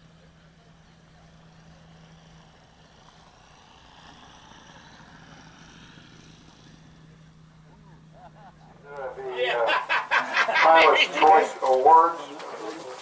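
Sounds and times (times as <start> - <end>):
faint engine drone: 0.0 - 13.0.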